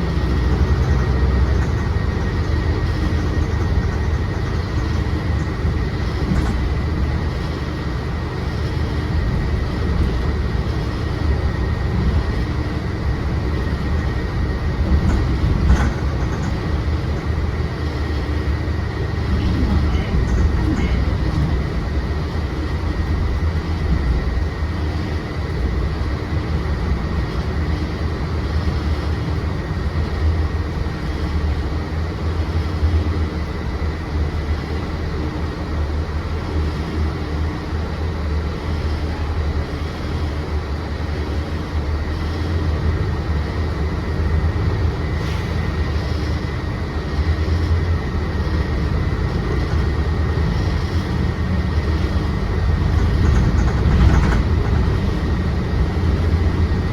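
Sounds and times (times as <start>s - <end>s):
bus engine and road rumble: 0.0s - 56.9s
faint steady whine: 0.0s - 56.9s.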